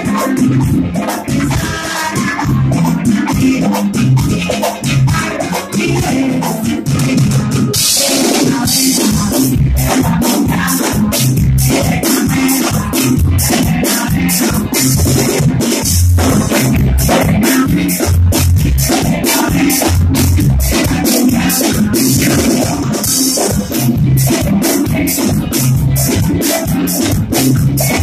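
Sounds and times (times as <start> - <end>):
live band playing cumbia: 0.0 - 28.0.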